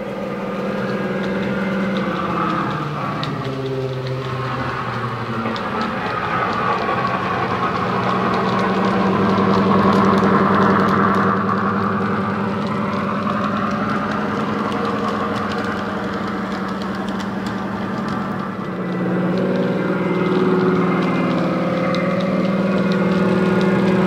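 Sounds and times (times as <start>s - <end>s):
model diesel engine sound: 0.0s - 24.0s.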